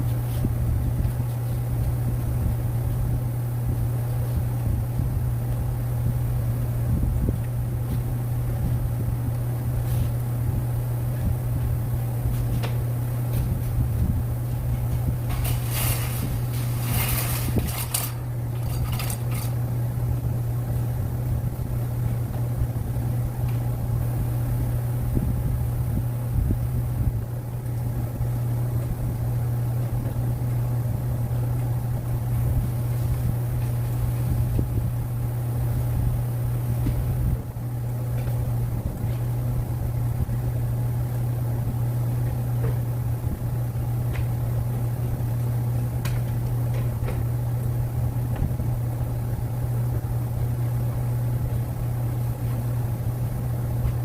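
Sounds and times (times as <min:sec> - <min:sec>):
machine hum with low rumble: 0:00.0 - 0:54.0.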